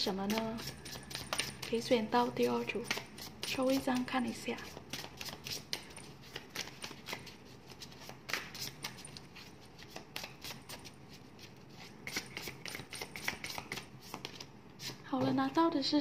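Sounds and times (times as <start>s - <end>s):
cards clicking and rustling: 0.3s - 1.9s, 2.6s - 15.0s.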